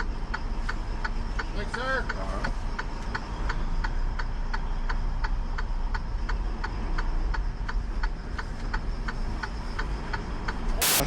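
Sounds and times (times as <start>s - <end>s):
rapid mechanical ticking: 0.0s - 11.0s.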